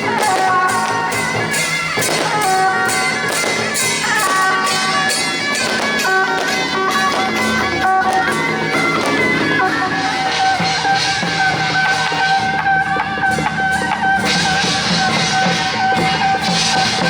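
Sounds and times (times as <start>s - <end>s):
percussion beat: 0.0s - 17.0s
procession music melody: 0.0s - 17.0s.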